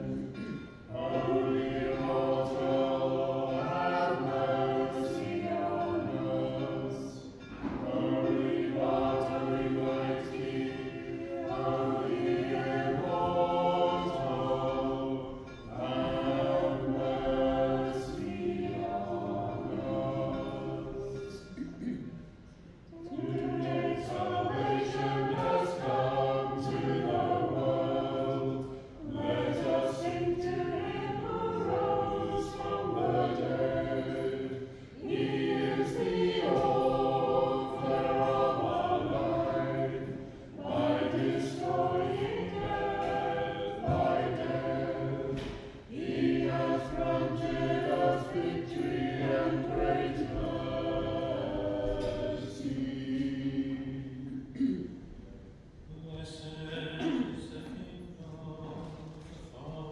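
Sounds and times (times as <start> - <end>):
choir singing liturgical chant: 0.0 - 22.0, 22.7 - 55.0, 55.9 - 59.9.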